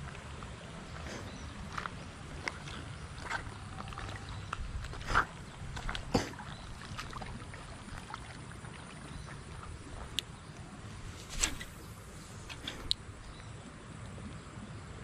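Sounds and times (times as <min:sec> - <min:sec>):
water splashes: 0:00.0 - 0:14.3
low background noise: 0:00.0 - 0:15.0.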